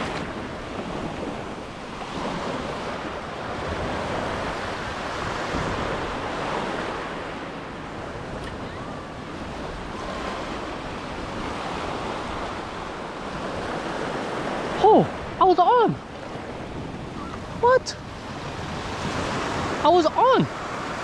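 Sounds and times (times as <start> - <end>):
wind rumbling on microphone: 0.0 - 15.4, 16.0 - 21.0
small waves on pebbly shore: 0.0 - 21.0.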